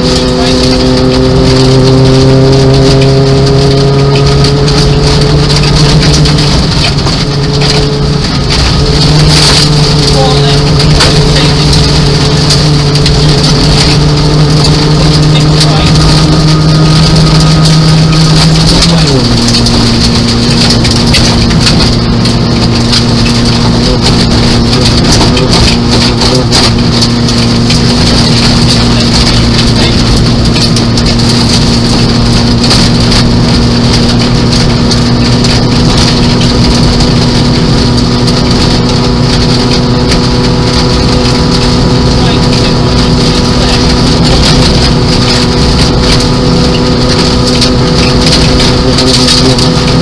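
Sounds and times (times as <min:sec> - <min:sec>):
gravel hitting car underside: 0:00.0 - 0:50.0
rally car engine: 0:00.0 - 0:50.0.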